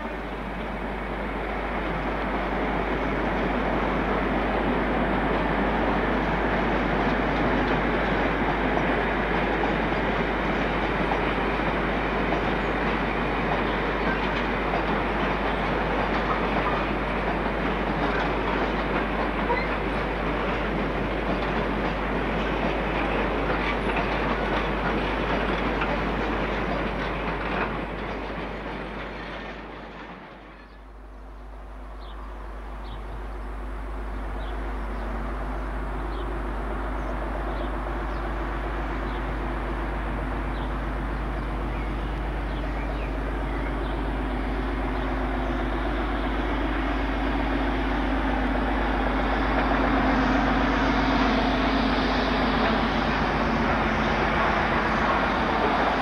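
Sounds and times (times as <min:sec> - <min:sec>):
diesel locomotive engine working: 0:00.0 - 0:56.0
freight train wheels clattering: 0:01.8 - 0:30.9, 0:37.0 - 0:56.0.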